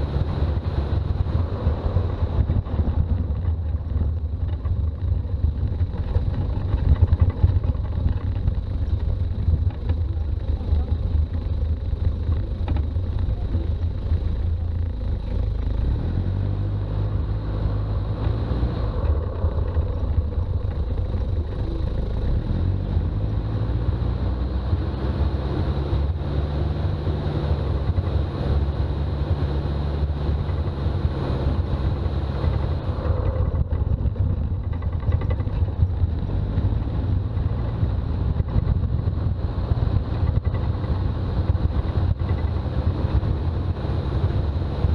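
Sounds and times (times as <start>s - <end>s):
diesel engine droning on road: 0.0s - 44.9s.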